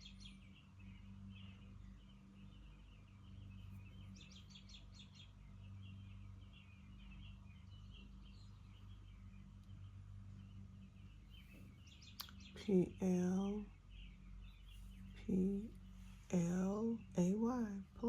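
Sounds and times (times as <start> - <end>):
small bird chirping: 0.0 - 18.0
steady low hum: 0.0 - 18.0.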